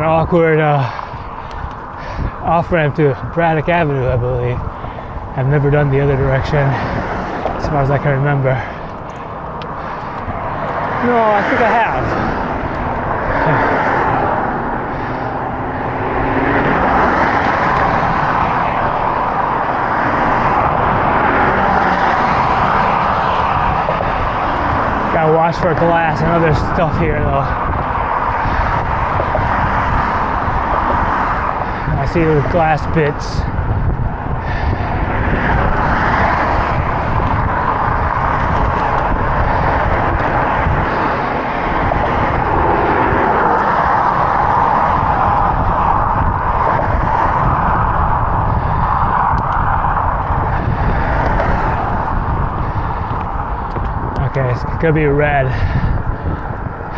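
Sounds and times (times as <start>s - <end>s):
cars and trucks passing: 0.0s - 56.9s
traffic noise: 0.0s - 56.9s
wind on microphone: 0.0s - 56.9s.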